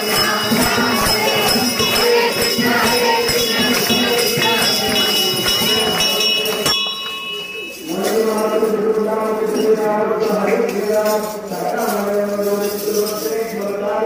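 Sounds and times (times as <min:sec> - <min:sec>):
crowd voices: 0:00.0 - 0:14.0
jingling bells: 0:00.0 - 0:14.0
rhythmic clapping: 0:00.0 - 0:14.0
tambourine: 0:00.0 - 0:14.0.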